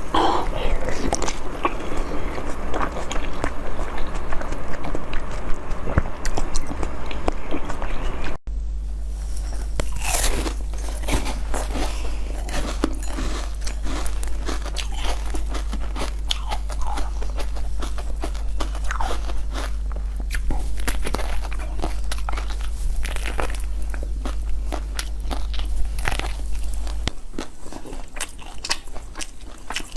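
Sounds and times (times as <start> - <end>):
crunching and chewing frozen food: 0.0 - 8.4, 9.1 - 29.9
low hum: 0.0 - 29.5.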